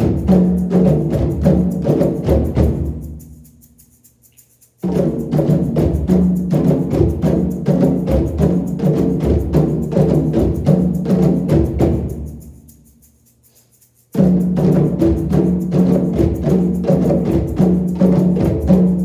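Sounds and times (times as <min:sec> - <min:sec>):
hand drums playing: 0:00.0 - 0:13.1, 0:14.0 - 0:19.0.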